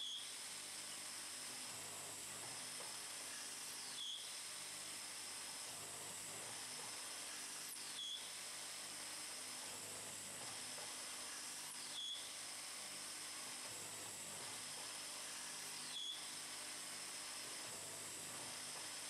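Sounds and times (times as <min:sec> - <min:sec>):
lathe hissing whir: 0:00.0 - 0:19.0.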